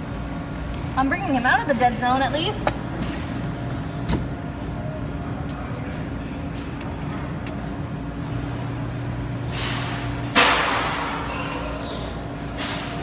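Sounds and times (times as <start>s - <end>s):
electrical hum of arcade machines: 0.0s - 13.0s.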